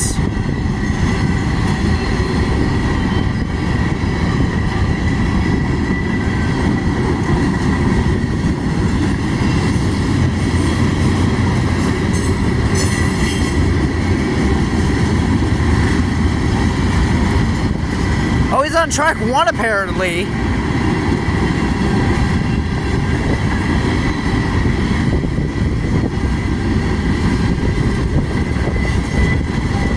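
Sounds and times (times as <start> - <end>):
train wheels rumbling on rail: 0.0 - 18.5, 20.3 - 29.9.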